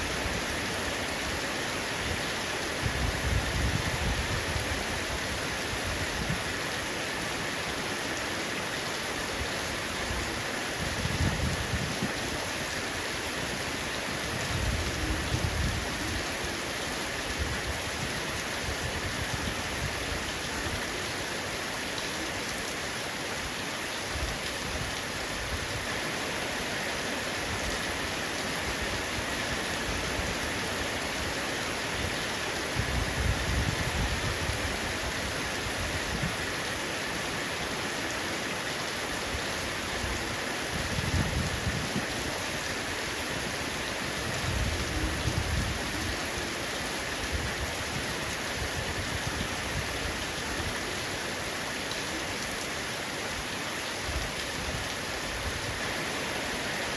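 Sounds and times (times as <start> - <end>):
heavy rain on roof: 0.0 - 56.9.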